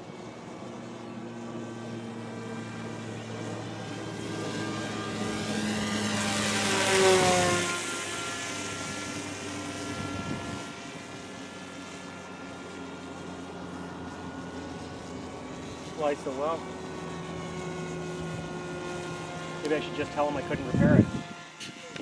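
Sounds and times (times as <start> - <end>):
model plane propeller whining: 0.0 - 22.0.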